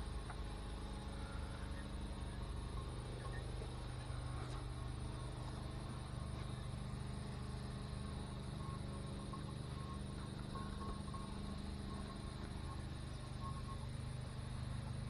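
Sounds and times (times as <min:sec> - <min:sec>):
constant low hum: 0:00.0 - 0:15.0
insects chirping: 0:00.0 - 0:15.0.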